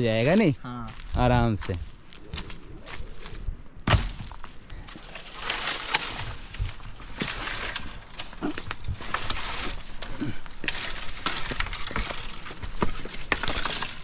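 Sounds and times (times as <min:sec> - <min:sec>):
dry branches rustling and crackling: 0:00.0 - 0:14.0
firewood dragged over ground: 0:00.0 - 0:14.0
twigs snapping: 0:00.2 - 0:14.0.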